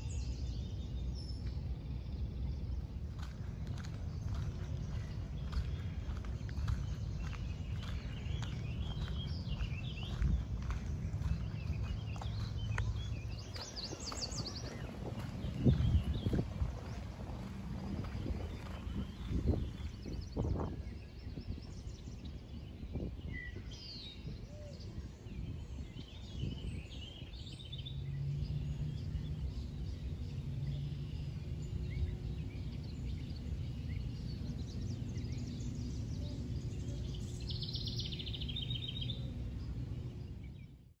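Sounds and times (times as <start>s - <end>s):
wild birds calling and chirping: 0.0s - 40.8s
steady low hum: 0.0s - 41.0s.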